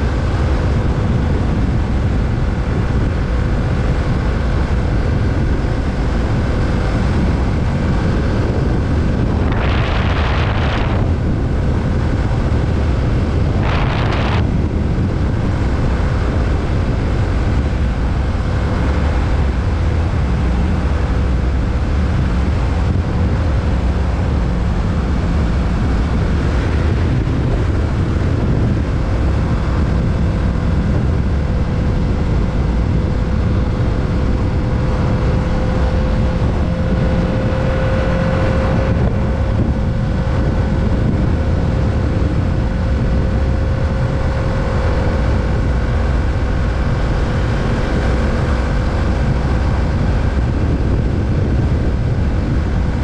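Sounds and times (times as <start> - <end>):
loud rush of noise: 0.0 - 53.0
motorcycle engine running: 0.0 - 53.0
wind noise on microphone: 0.0 - 53.0.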